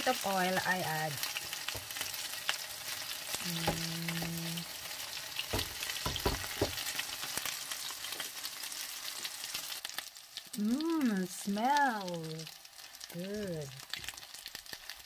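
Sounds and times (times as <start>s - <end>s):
sausages sizzling in a pan: 0.0s - 15.0s.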